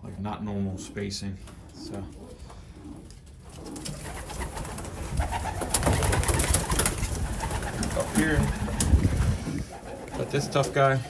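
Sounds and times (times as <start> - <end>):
pigeons cooing: 0.0 - 11.0
pigeons scuffling and clicking: 1.5 - 10.8.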